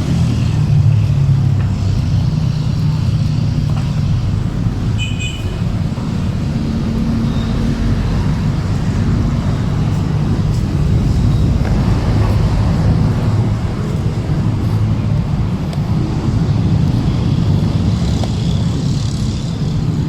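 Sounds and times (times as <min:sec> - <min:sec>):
road traffic noise: 0:00.0 - 0:20.0
vehicle engine running: 0:00.0 - 0:20.0.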